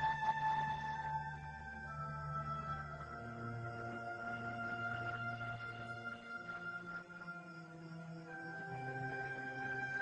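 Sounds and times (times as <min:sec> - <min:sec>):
slow sustained music notes: 0:00.0 - 0:10.0.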